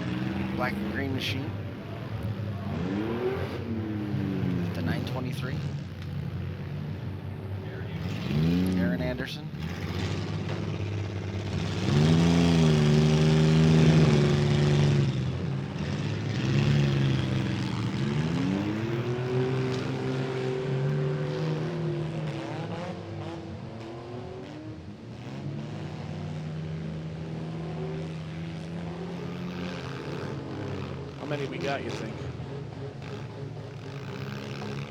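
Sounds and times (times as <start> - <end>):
car engines revving hard: 0.0 - 34.9.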